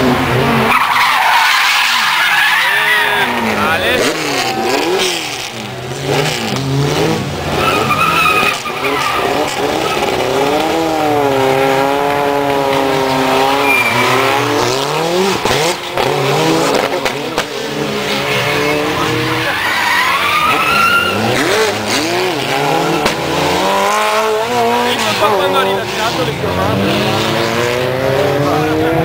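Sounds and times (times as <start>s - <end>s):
racing car engines revving: 0.0s - 29.0s
tyres skidding and squealing: 0.0s - 29.0s.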